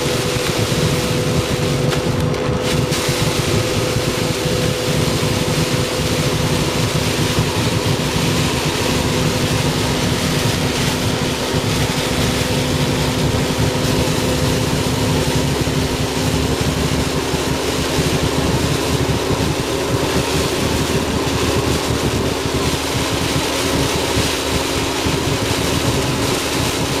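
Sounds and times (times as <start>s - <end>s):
steady low hum: 0.0s - 27.0s
strong wind rushing: 0.0s - 27.0s.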